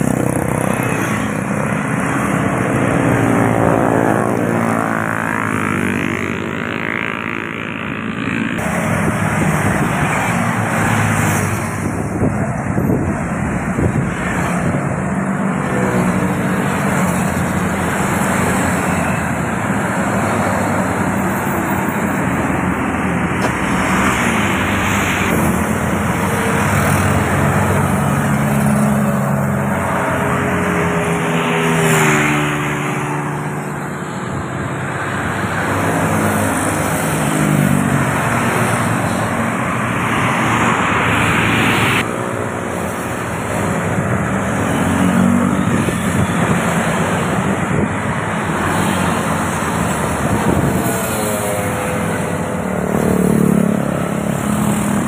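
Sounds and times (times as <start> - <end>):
highway traffic passing: 0.0 - 55.0.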